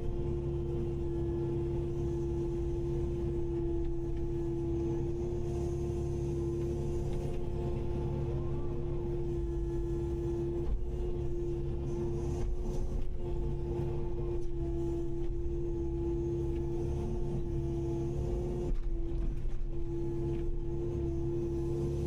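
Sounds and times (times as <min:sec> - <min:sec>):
excavator engine drone: 0:00.0 - 0:22.0
steady hum: 0:00.0 - 0:22.0.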